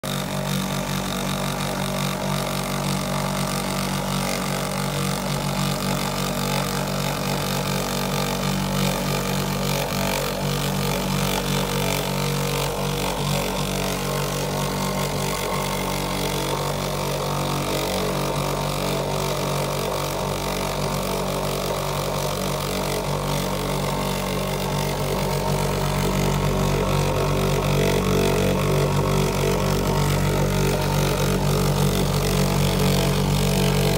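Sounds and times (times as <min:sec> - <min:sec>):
pump motor hum: 0:00.0 - 0:33.9.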